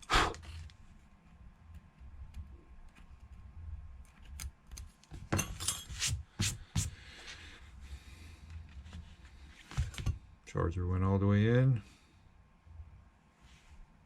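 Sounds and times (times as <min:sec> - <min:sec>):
low steady hum: 0:00.0 - 0:06.0, 0:07.0 - 0:14.0.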